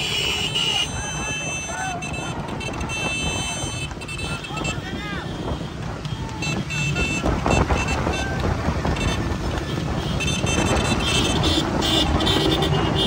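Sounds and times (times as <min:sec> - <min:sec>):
motorcycle engines at speed: 0:00.0 - 0:13.0
wind on microphone: 0:00.0 - 0:13.0.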